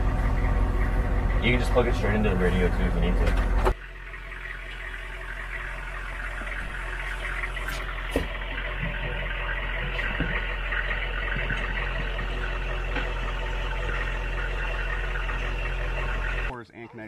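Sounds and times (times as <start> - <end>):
vehicle engine idling: 0.0 - 16.6.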